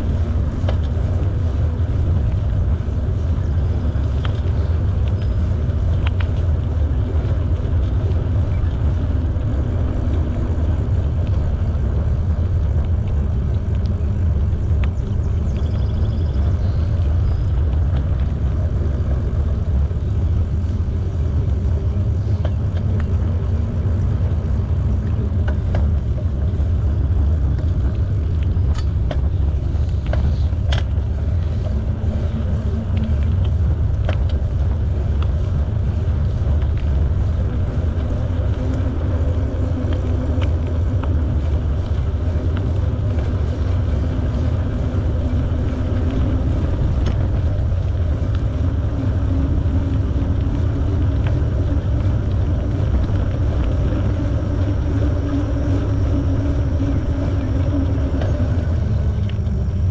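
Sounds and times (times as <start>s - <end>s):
wind rush on microphone: 0.0s - 59.9s
faint clicks: 2.2s - 59.9s.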